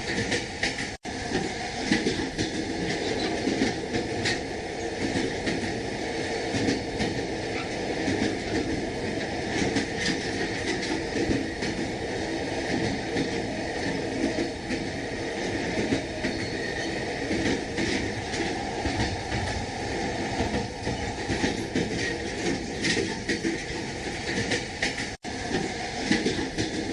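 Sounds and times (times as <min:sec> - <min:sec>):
train carriage rumble: 0:00.0 - 0:26.9
wheels clacking over rail joints: 0:00.0 - 0:26.9.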